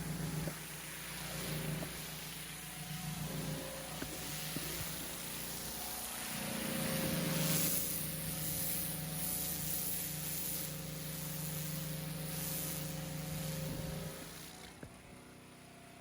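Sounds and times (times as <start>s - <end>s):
water jet hissing on paving: 0.0s - 14.8s
pressure washer motor hum: 0.0s - 16.0s.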